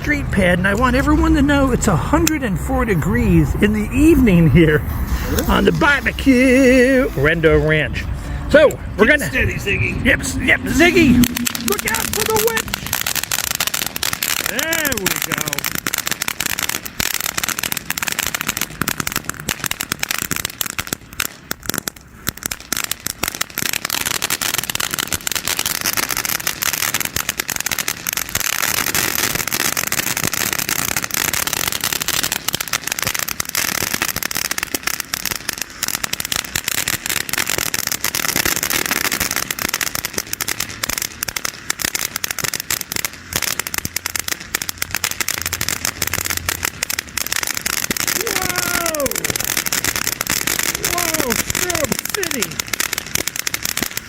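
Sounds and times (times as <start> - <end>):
firework fountain crackling: 0.0 - 54.0.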